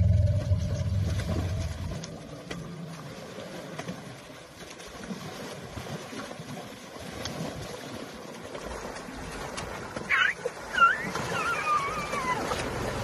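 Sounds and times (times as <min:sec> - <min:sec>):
elephant splashing in water: 0:00.0 - 0:13.0.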